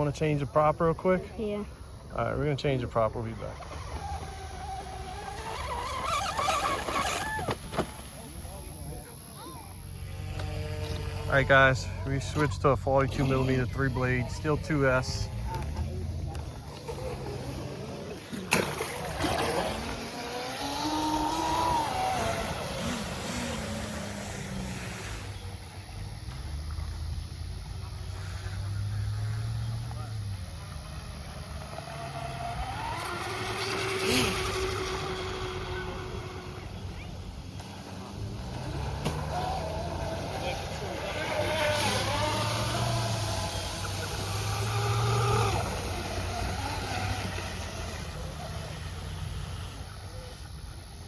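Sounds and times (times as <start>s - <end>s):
boat motor whining: 0.7s - 51.0s.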